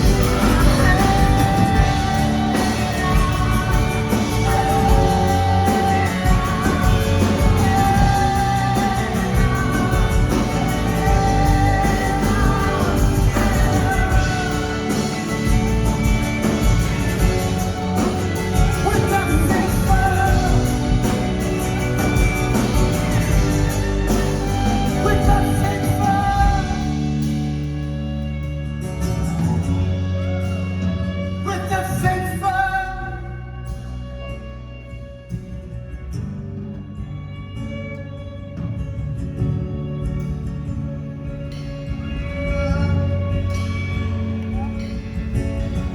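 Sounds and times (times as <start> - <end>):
live band playing folk-rock: 0.0 - 45.9.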